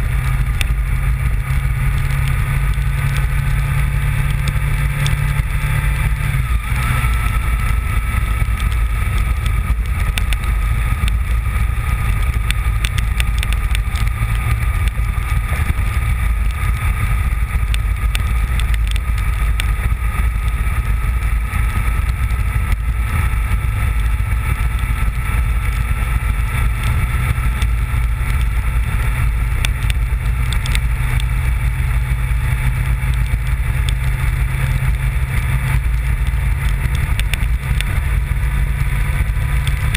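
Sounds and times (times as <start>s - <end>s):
motorcycle engine running: 0.0s - 39.9s
wind rush: 0.0s - 39.9s
light ticks: 0.3s - 23.2s, 23.8s - 39.9s.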